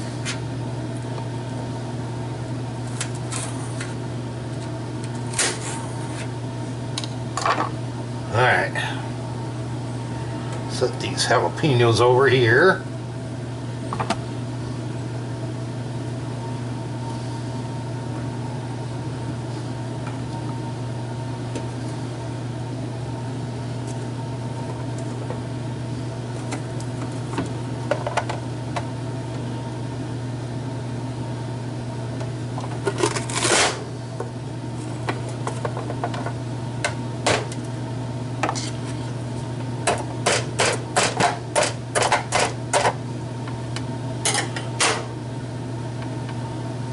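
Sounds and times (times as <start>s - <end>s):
low room hum: 0.0s - 46.9s.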